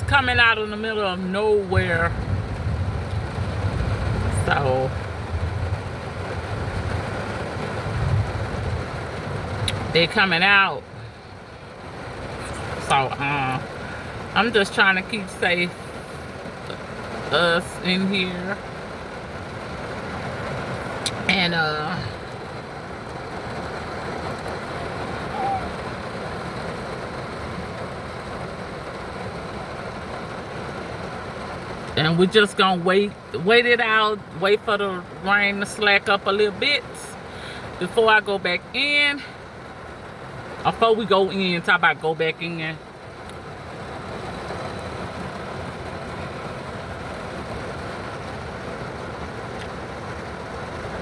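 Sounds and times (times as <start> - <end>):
heavy rain on car roof: 0.0 - 51.0.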